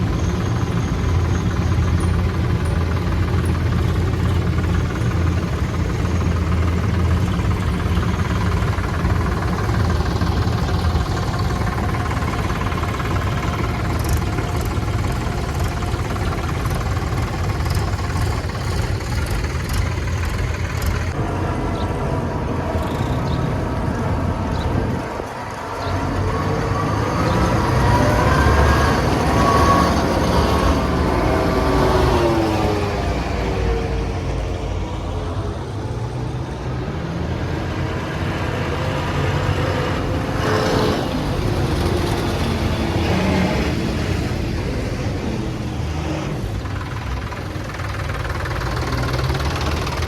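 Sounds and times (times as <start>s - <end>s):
diesel farm machinery engines: 0.0s - 50.0s.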